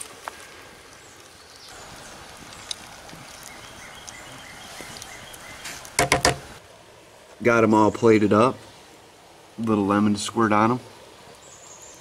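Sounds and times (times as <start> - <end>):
water boiling with bubbling hiss: 0.0 - 12.0.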